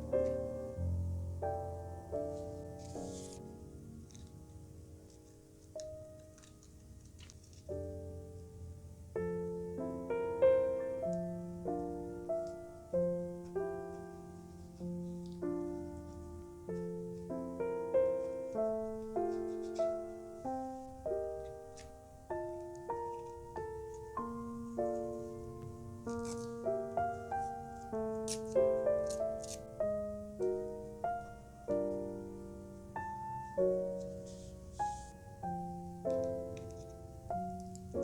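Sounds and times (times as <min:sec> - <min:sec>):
gentle piano melody: 0:00.0 - 0:38.0.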